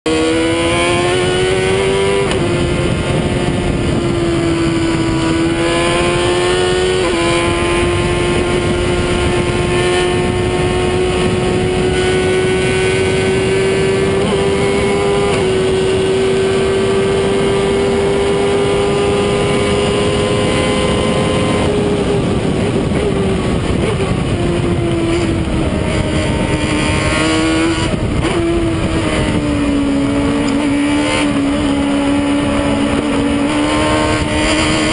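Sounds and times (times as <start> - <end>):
racing car engine at high revs: 0.0 - 34.9
wind rush: 0.1 - 34.9.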